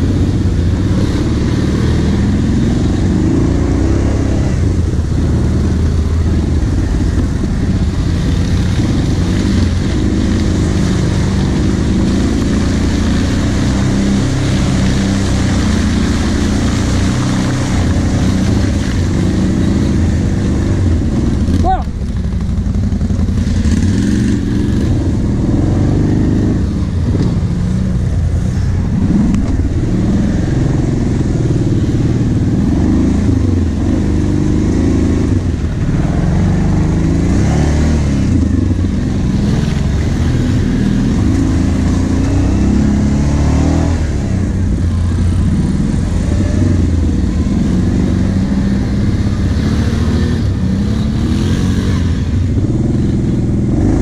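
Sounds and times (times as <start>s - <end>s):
engine revving under load: 0.0s - 22.0s, 28.9s - 54.0s.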